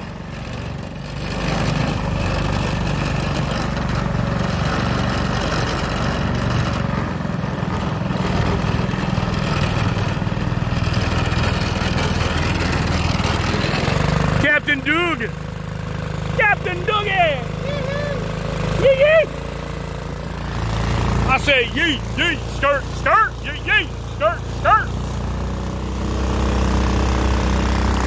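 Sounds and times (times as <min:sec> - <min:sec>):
small boat engine droning: 0:00.0 - 0:28.0.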